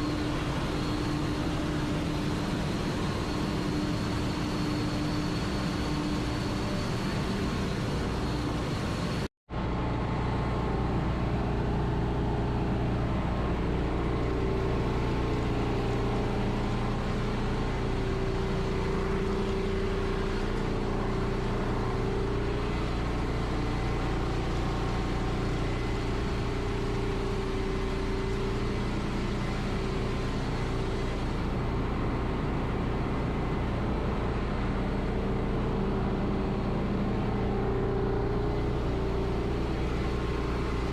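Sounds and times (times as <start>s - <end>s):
engine-room machinery drone: 0.0s - 40.9s.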